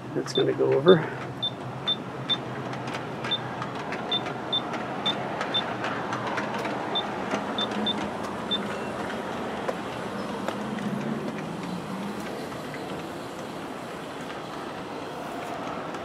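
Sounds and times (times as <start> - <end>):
wheels clicking over rail joints: 0.1 - 16.0.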